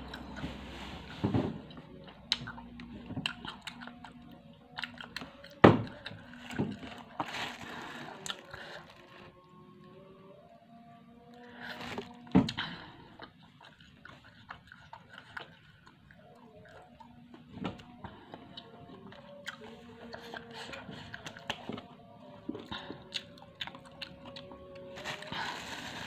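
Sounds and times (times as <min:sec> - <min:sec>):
crunchy snacks being chewed: 0:02.0 - 0:09.3, 0:11.3 - 0:22.0, 0:22.6 - 0:26.0.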